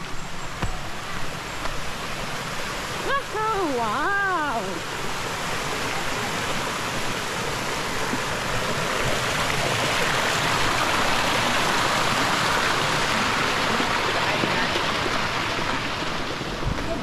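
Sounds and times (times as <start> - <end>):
water rushing in stream: 0.0 - 17.0.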